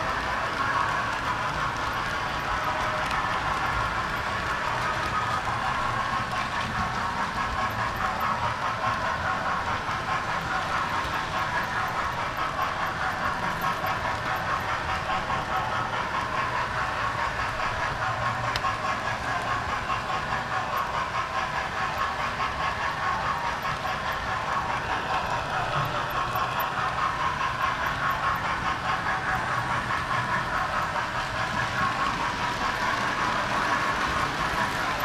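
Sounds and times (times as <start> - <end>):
model train wheels rattling: 0.0 - 35.0.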